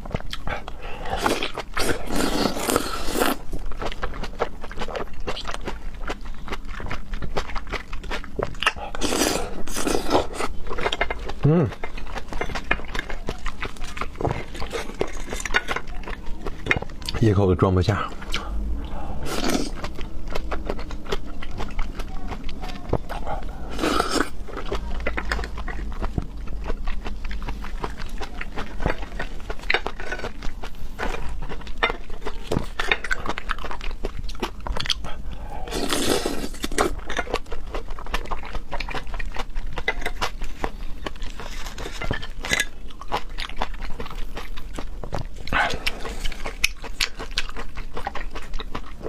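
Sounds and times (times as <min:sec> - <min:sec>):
chewing and biting food: 0:00.0 - 0:49.0.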